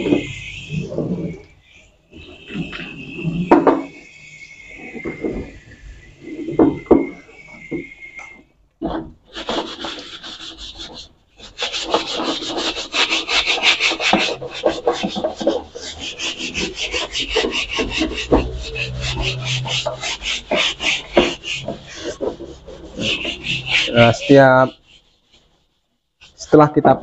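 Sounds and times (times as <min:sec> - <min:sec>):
scrubbing metal wok: 0:00.0 - 0:05.9, 0:09.3 - 0:27.0.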